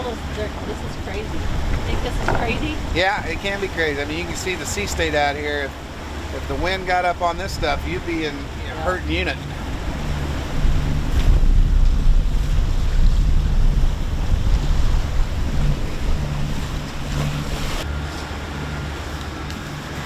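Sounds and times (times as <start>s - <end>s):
low rumble: 0.0s - 20.0s
waves rushing along hull: 0.0s - 20.0s
wind buffeting microphone: 0.0s - 20.0s.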